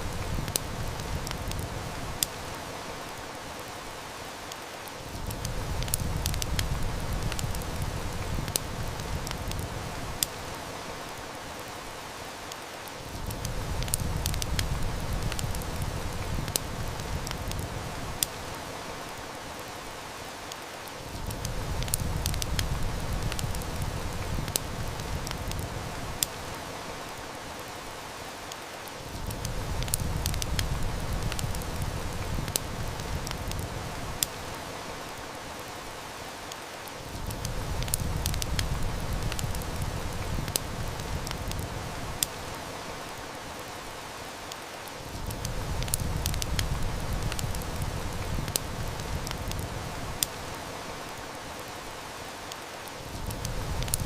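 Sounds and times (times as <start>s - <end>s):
heavy rain hiss: 0.0s - 54.0s
wood fire crackling: 0.0s - 54.0s.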